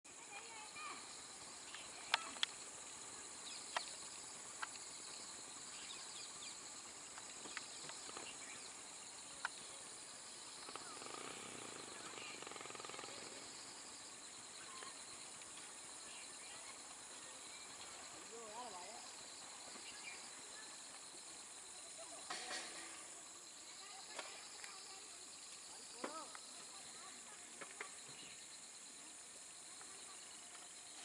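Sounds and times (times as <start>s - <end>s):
steady high-pitched hiss: 0.1s - 31.0s.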